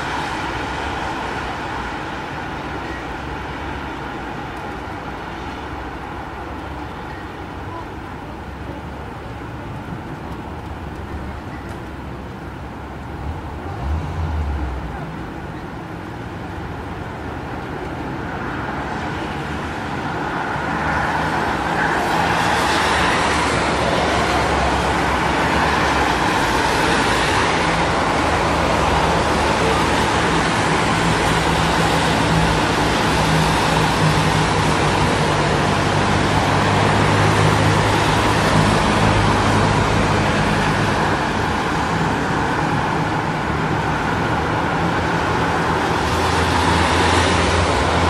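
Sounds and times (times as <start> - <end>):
engines in slow traffic: 0.0 - 48.0
road noise: 0.0 - 48.0.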